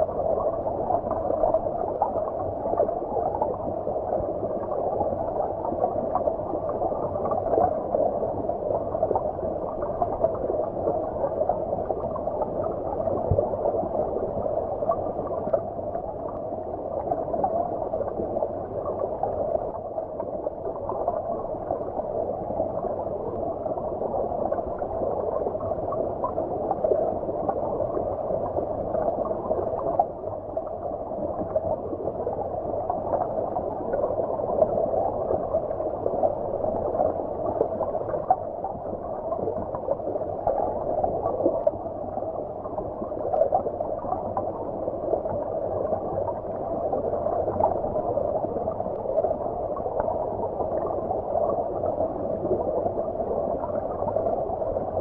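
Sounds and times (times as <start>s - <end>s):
muffled stream water gurgling: 0.0s - 55.0s.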